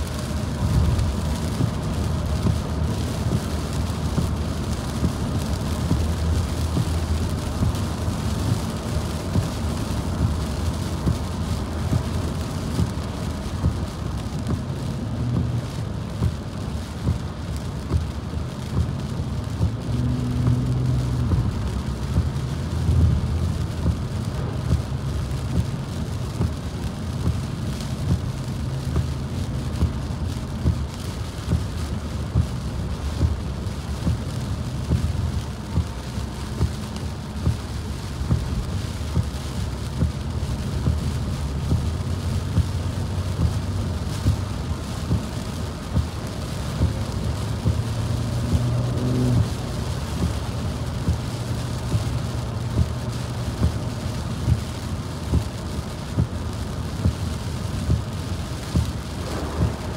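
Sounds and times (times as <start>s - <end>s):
rain hissing and tapping on car: 0.0s - 59.9s
road and tyre rumble: 0.0s - 59.9s.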